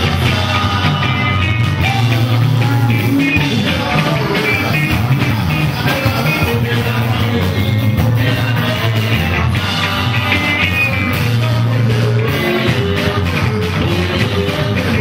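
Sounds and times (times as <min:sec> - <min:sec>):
bass line: 0:00.0 - 0:15.0
electric guitars: 0:00.0 - 0:15.0
person singing into a microphone: 0:00.0 - 0:15.0.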